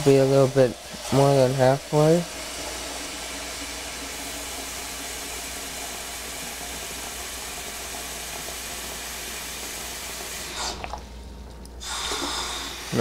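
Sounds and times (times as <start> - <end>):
faucet running into metal pot: 0.0 - 11.1.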